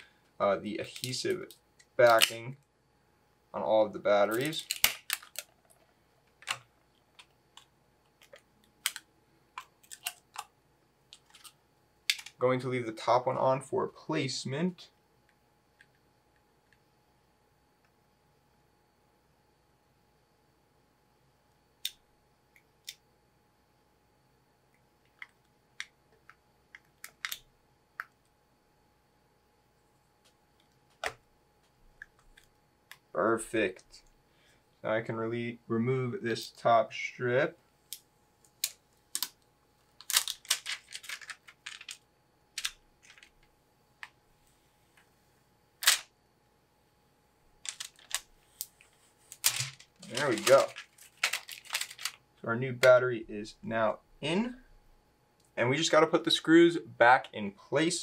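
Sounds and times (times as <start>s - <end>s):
faint room tone: 0.0s - 58.0s.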